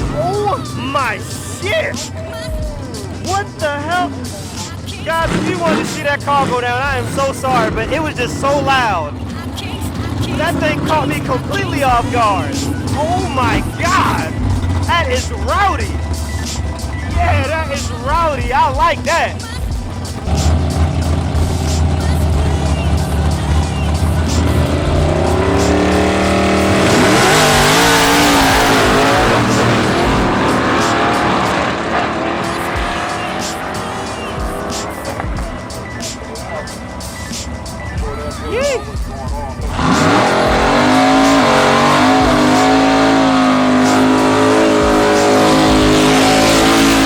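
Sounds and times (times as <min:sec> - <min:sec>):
racing car engine revving: 0:00.0 - 0:47.0.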